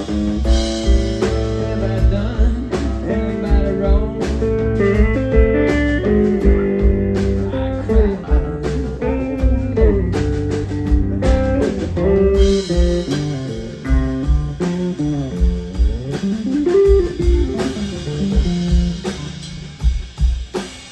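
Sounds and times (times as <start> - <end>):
electric guitar sliding notes: 0.0 - 19.7
bass guitar: 0.0 - 20.9
drum kit beat: 0.0 - 20.9.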